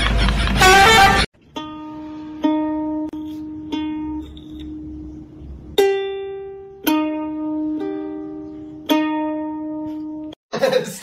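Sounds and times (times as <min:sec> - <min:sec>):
ukulele notes plucked: 0:00.6 - 0:10.4.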